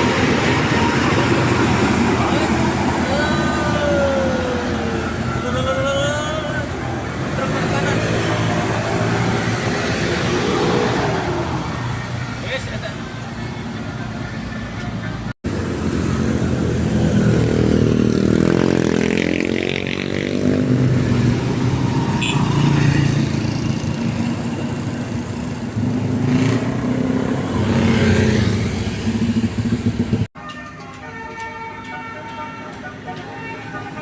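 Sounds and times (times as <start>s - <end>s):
vehicle engine passing: 0.0s - 13.8s, 15.5s - 30.3s.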